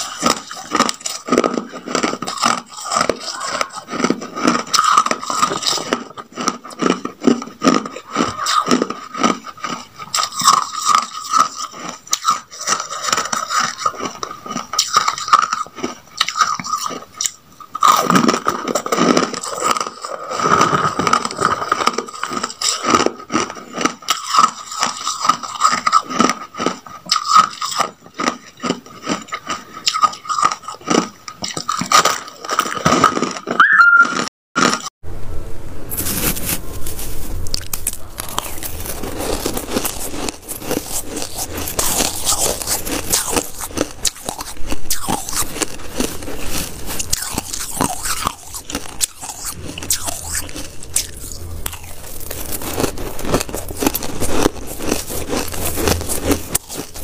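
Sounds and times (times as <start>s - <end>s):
ice being chewed: 0.0s - 34.9s, 35.9s - 57.0s.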